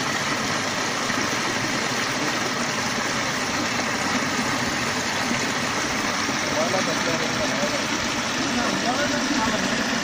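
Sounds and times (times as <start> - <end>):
water splashing over rock ledge: 0.0 - 10.0.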